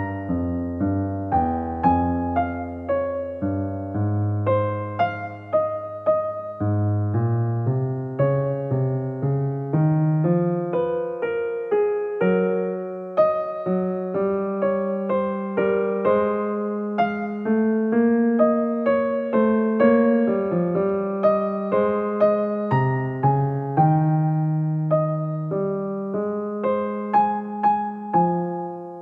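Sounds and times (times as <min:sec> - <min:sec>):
solo piano-like keyboard melody: 0:00.0 - 0:29.0.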